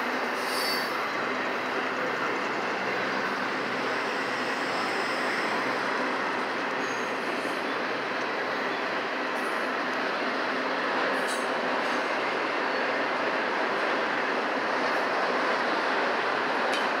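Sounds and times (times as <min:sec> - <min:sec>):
freight train wheels rolling on rails: 0:00.0 - 0:17.0.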